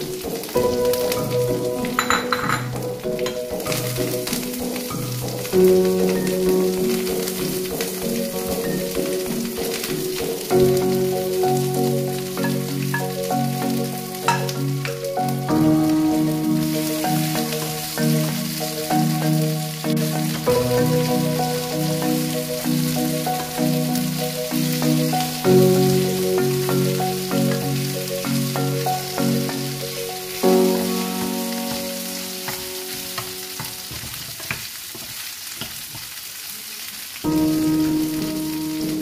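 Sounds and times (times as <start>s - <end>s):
background music: 0.0s - 33.9s, 37.3s - 39.0s
shrimp sizzling in a pan: 0.0s - 39.0s.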